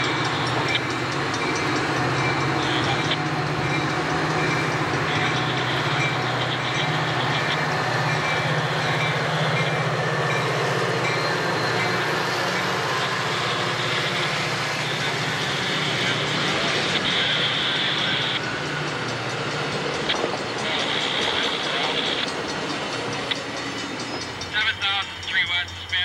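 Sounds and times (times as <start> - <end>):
diesel locomotive engine running: 0.0 - 26.0
train coaches rolling on rails: 0.0 - 26.0.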